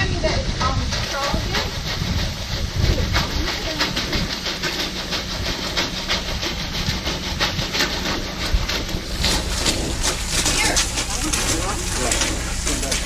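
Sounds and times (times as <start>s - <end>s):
machine engine hum: 0.0s - 13.0s
rattling clicks and clanks: 0.0s - 13.0s.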